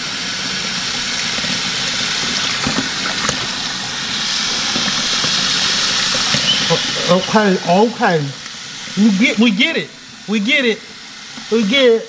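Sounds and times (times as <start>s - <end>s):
faucet water splashing into sink: 0.0s - 11.8s.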